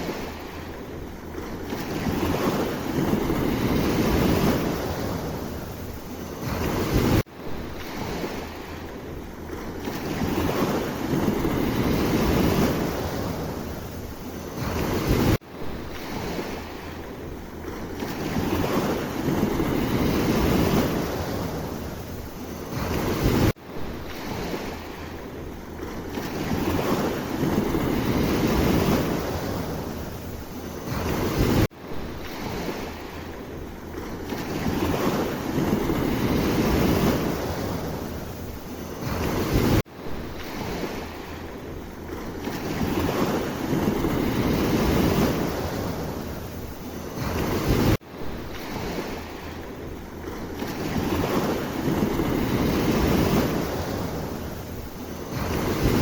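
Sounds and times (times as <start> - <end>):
sea waves breaking: 0.0 - 56.0
wind buffeting microphone: 0.0 - 56.0.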